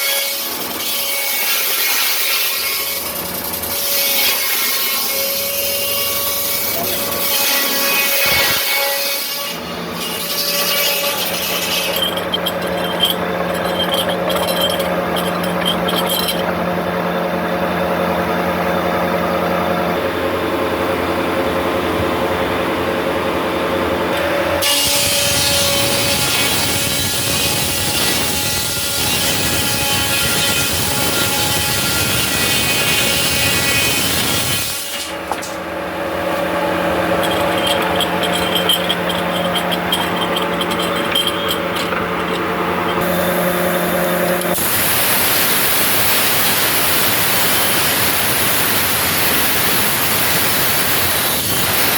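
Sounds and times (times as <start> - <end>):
saw whining through wood: 0.0 - 16.6, 24.2 - 51.9
high-pitched rasping and clinking: 0.0 - 17.1, 24.2 - 51.9
sawmill machinery humming: 0.0 - 51.9.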